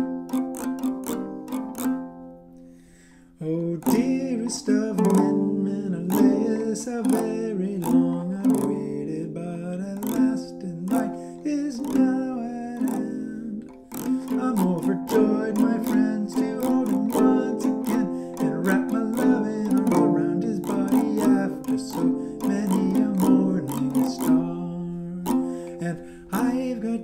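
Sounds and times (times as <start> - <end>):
lyre strummed: 0.0 - 27.0
person singing: 3.4 - 27.0.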